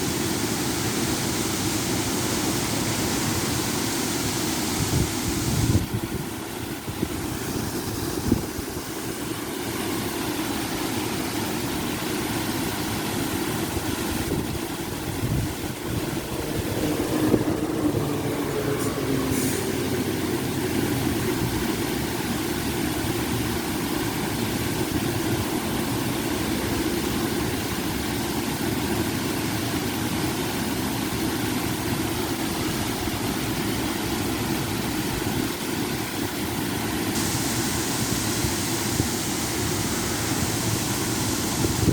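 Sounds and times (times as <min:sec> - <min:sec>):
waterfall water pouring and splashing: 0:00.0 - 0:41.9.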